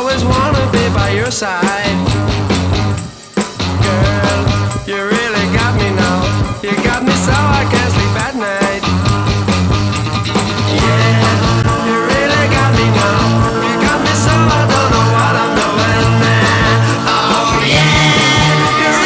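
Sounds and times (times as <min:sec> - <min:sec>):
rock music with bass line: 0:00.0 - 0:19.0.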